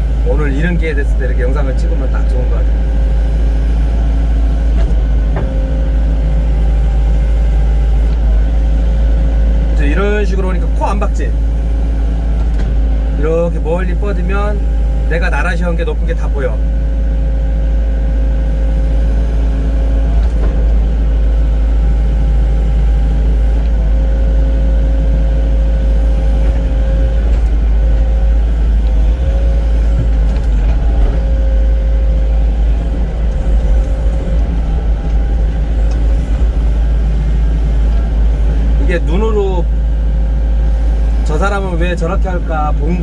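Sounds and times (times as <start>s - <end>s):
excavator diesel engine running: 0.0s - 43.0s
steady whine: 0.0s - 43.0s.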